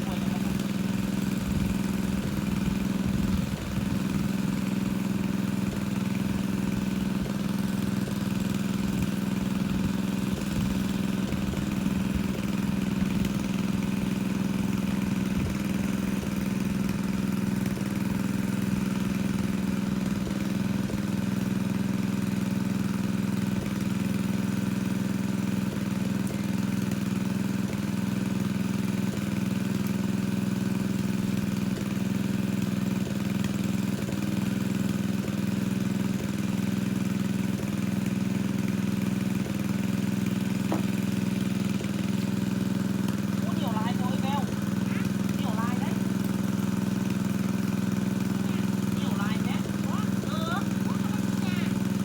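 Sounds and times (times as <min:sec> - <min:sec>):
water pump engine running: 0:00.0 - 0:52.0.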